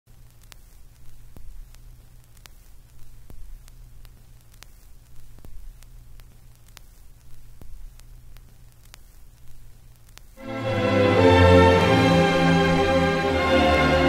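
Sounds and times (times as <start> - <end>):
faint hiss: 0.1 - 14.0
low static hum: 0.1 - 14.0
sharp static clicks: 0.1 - 14.0.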